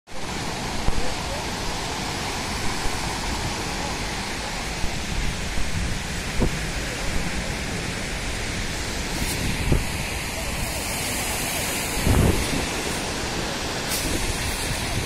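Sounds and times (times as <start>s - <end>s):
surf breaking on beach: 0.1s - 15.0s
wind buffeting microphone: 2.2s - 15.0s.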